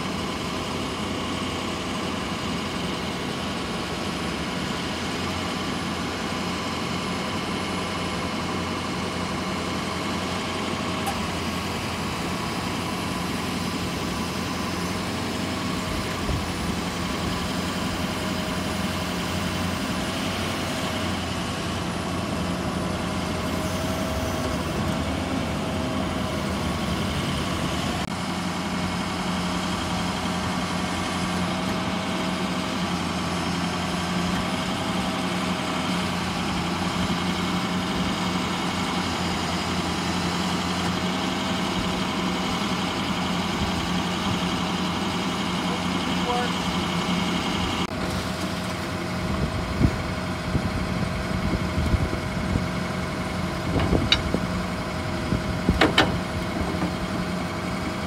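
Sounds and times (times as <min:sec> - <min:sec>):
diesel engine idling: 0:00.0 - 0:58.0
hydraulic whine: 0:00.0 - 0:58.0.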